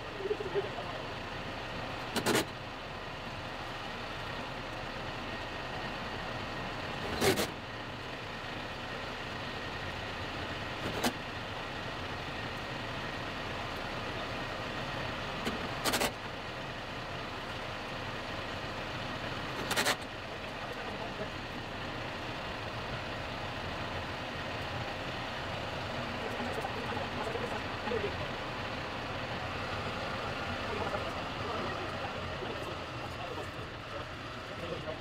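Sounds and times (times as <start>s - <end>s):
tractor diesel engine idling: 0.0s - 35.0s.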